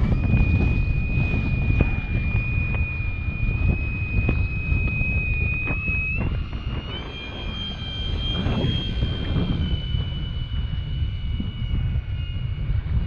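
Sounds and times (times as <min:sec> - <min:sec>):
heavy low rumble: 0:00.0 - 0:13.0
model plane motor whining: 0:00.0 - 0:13.0.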